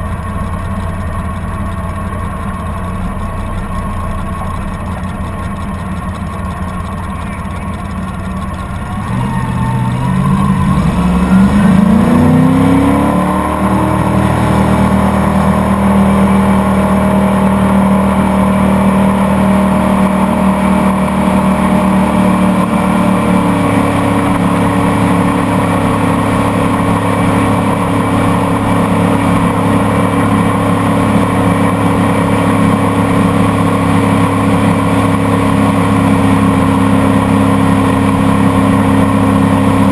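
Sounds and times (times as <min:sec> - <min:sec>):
boat motor: 0:00.0 - 0:39.9.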